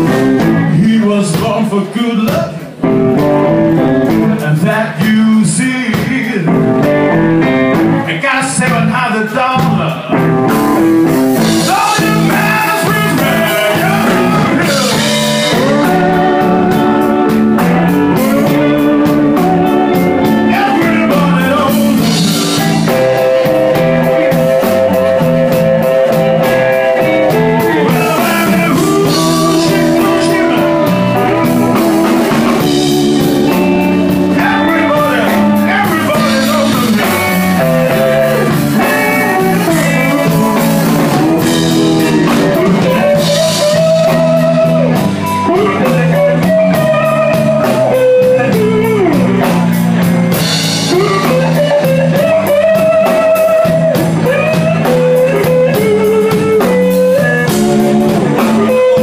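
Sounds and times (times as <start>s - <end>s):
electric guitar: 0.0s - 59.0s
live blues band playing: 0.0s - 59.0s.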